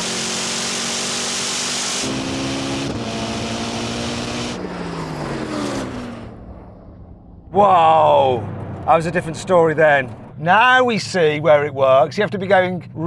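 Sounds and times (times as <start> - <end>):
car engines droning: 0.0 - 13.0.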